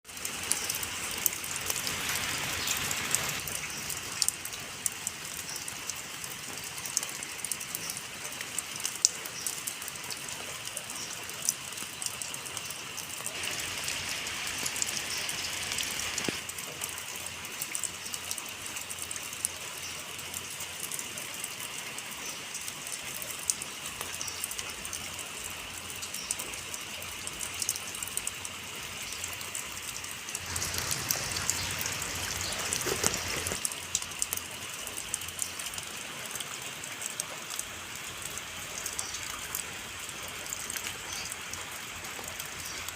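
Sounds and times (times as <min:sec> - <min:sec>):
rain falling steadily: 0:00.0 - 0:42.9.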